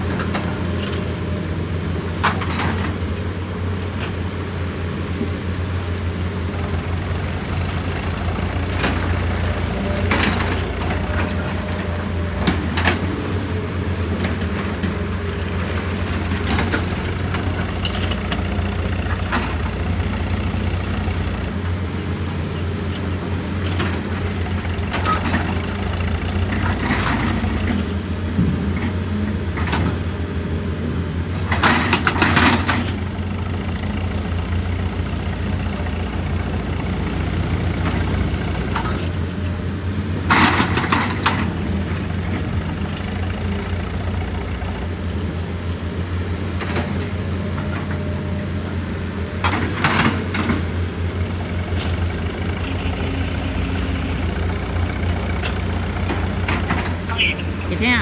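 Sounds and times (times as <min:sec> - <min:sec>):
heavy machinery engine droning: 0:00.0 - 0:58.0.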